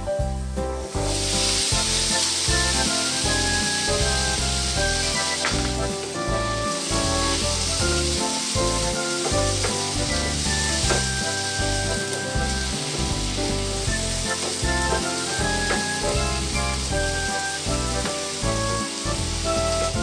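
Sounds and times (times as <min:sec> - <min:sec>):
background music: 0:00.0 - 0:20.0
food sizzling in a pan: 0:00.8 - 0:20.0.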